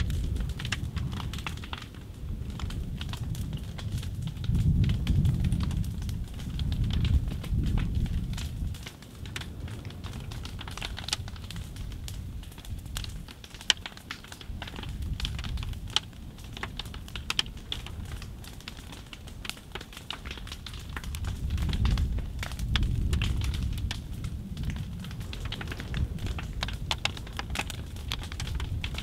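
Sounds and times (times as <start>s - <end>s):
fire crackling and popping: 0.0s - 29.0s
low fire rumble: 0.0s - 29.0s.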